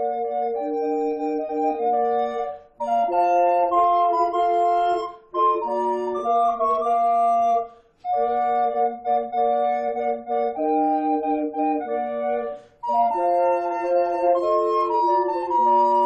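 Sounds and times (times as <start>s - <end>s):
organ playing hymn chords: 0.0s - 16.0s.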